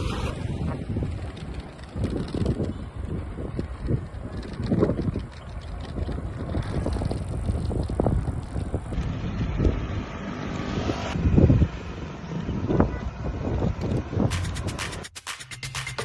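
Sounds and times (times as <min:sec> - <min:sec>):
wind buffeting microphone: 0:00.0 - 0:15.0
road and vehicle noise: 0:00.0 - 0:16.0.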